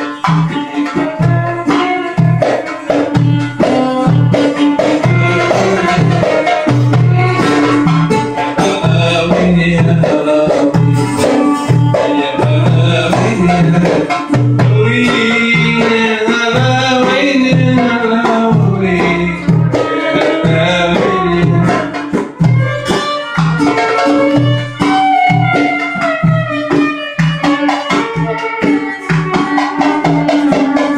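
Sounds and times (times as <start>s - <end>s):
goblet drums beating: 0.0s - 30.9s
plucked lute melody: 0.0s - 30.9s.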